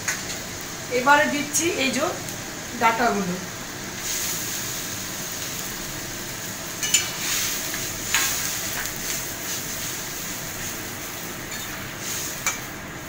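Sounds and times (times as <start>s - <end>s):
curry hissing in a pan: 0.0s - 13.0s.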